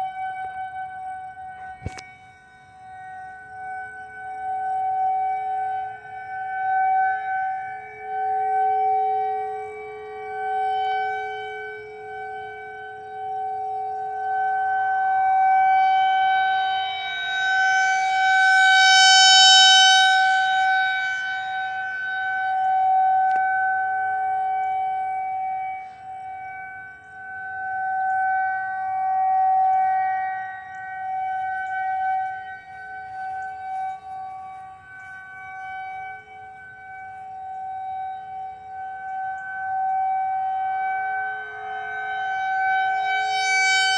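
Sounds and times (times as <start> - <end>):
lower siren tone: 0.0 - 43.9
tornado warning siren: 0.0 - 43.9.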